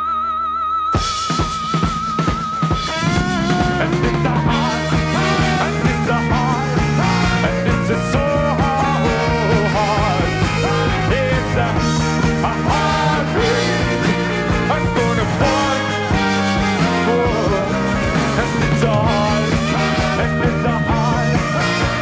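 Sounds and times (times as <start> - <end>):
bass guitar: 0.0 - 22.0
electric guitars: 0.0 - 22.0
drum kit: 1.0 - 22.0
singer's voice: 2.7 - 22.0.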